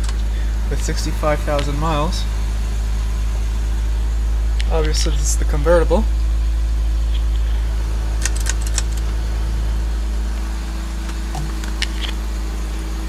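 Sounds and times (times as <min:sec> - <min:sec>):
car engine idling in cabin: 0:00.0 - 0:13.0.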